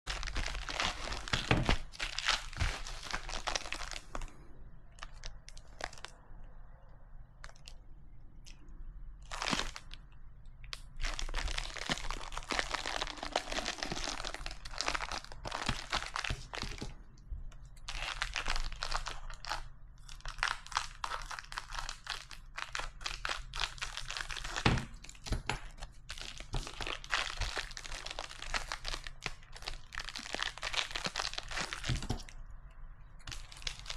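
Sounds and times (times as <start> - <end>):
plastic packaging crinkling: 0.1 - 6.2, 9.2 - 10.0, 10.7 - 17.0, 17.8 - 32.4, 33.2 - 33.9.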